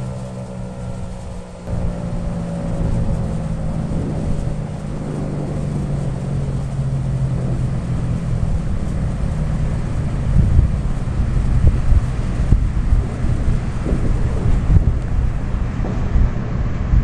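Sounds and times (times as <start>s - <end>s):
rushing noise: 0.0s - 17.0s
vehicle engine humming: 0.0s - 17.0s.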